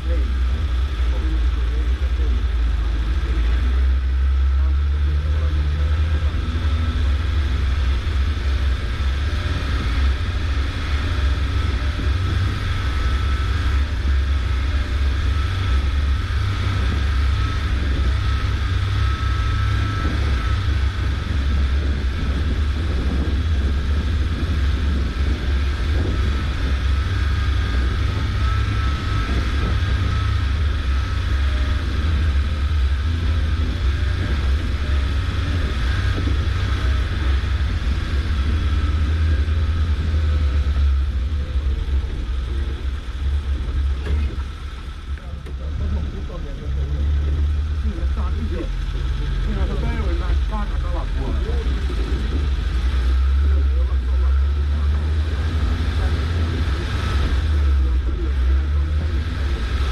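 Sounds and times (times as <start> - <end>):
vehicle engine low rumble: 0.0 - 59.9.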